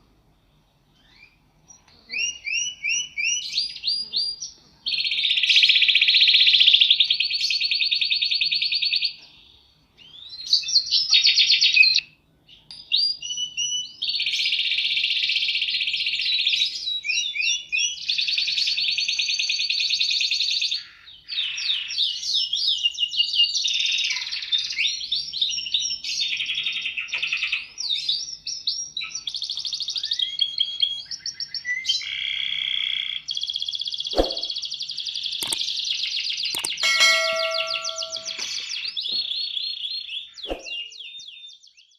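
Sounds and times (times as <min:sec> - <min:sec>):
canary singing trills: 0:01.0 - 0:41.9.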